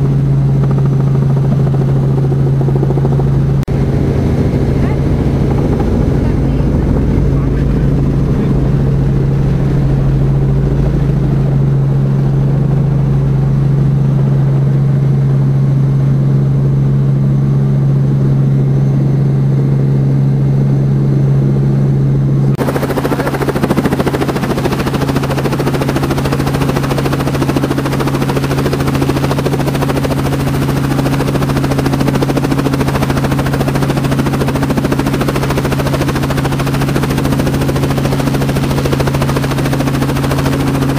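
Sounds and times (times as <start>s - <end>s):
rotor blades beating: 0.0s - 17.2s, 22.4s - 40.9s
rushing rotor wind: 0.0s - 17.2s, 22.2s - 40.9s
helicopter engine and rotor drone: 0.0s - 40.9s.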